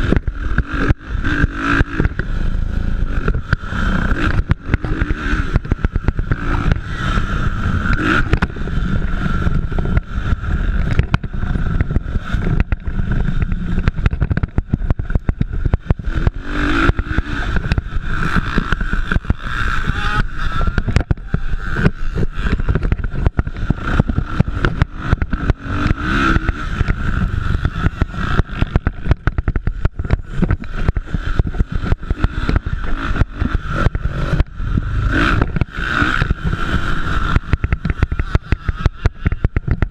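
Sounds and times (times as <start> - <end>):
dense rough crackle: 0.0 - 39.9
dirt bike engines revving: 0.0 - 39.9.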